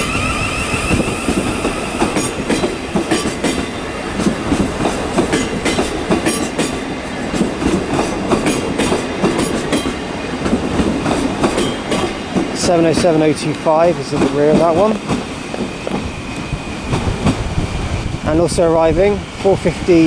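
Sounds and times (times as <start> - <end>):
wheels clacking over rail joints: 0.0 - 19.8
electric train running: 0.0 - 20.0.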